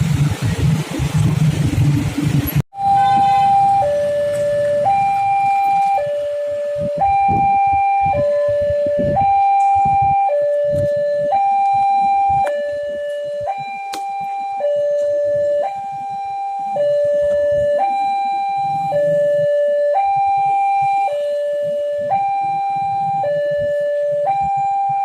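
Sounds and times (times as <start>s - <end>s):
low traffic rumble: 0.0s - 25.0s
two-tone crossing alarm: 2.7s - 25.0s.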